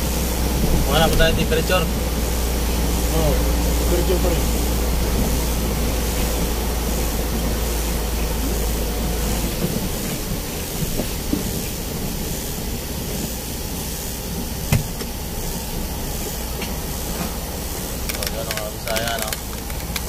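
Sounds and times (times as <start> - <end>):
engine rumble: 0.0 - 20.0
tyre hiss on wet road: 0.0 - 20.0.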